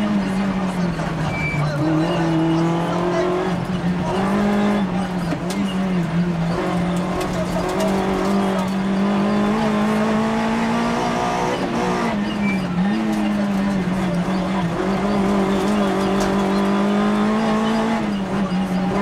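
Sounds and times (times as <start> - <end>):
car engine revving high: 0.0 - 19.0.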